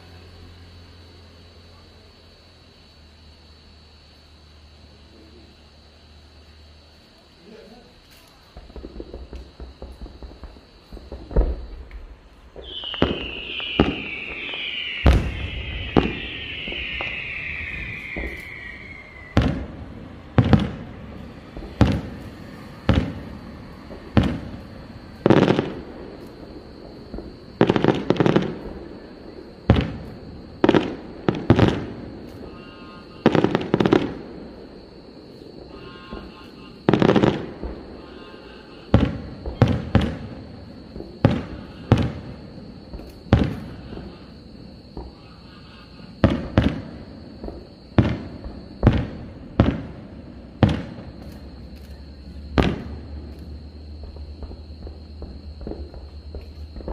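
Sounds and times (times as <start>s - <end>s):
firework booms with echoes: 8.5s - 45.2s, 46.2s - 56.9s.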